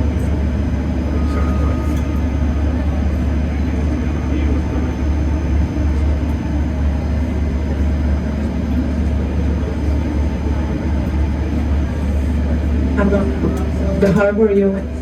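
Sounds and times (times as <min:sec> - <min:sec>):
low machinery hum and rumble: 0:00.0 - 0:15.0.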